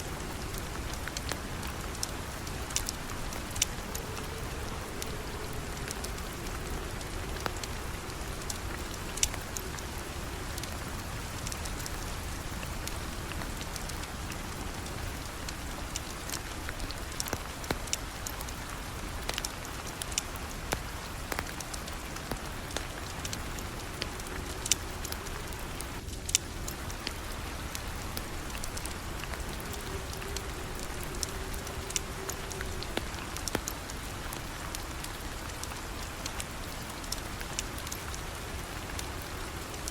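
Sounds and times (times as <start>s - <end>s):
steady rain falling: 0.0s - 39.9s
sharp ticks and pops: 0.2s - 39.9s.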